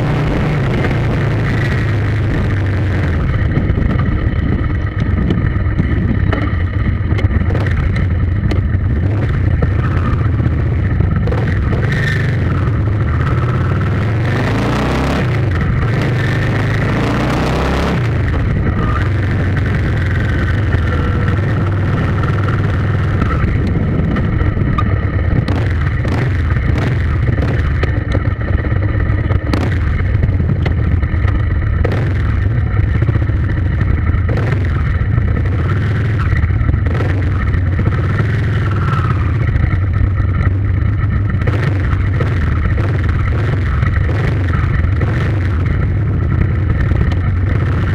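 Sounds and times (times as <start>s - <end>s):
vehicle engine rumbling: 0.0s - 47.9s.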